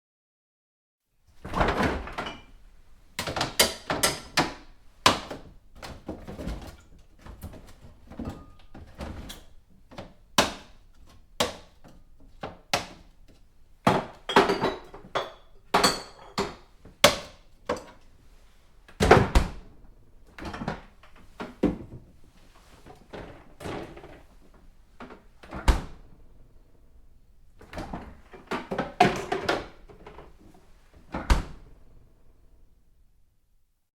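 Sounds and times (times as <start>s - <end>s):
items clattering in a refrigerator: 1.3s - 26.4s, 27.5s - 31.8s.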